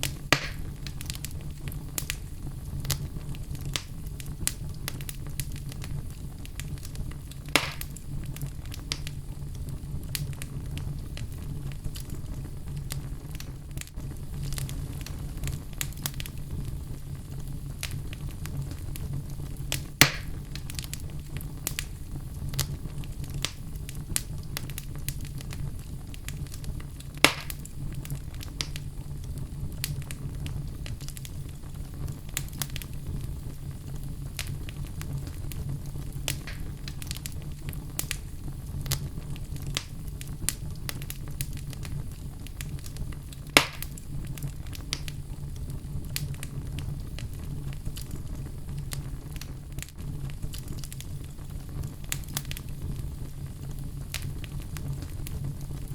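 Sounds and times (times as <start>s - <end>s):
fire pops: 0.0s - 55.9s
wood fire crackling: 0.0s - 55.9s.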